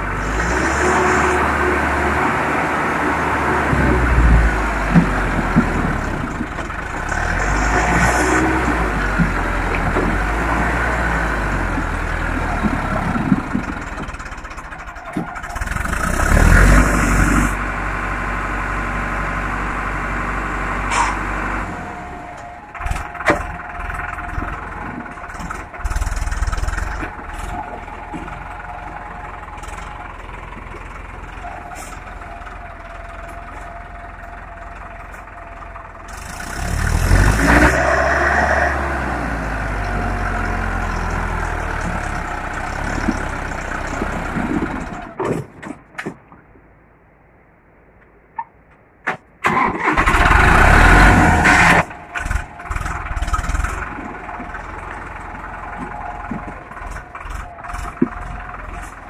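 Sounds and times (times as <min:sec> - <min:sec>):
tractor diesel engine revving: 0:00.0 - 0:45.2, 0:49.4 - 0:59.0.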